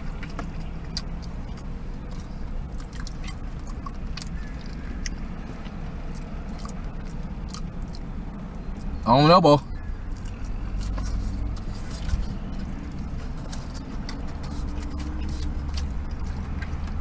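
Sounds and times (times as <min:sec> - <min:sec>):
person chewing: 0:00.0 - 0:08.1, 0:09.8 - 0:17.0.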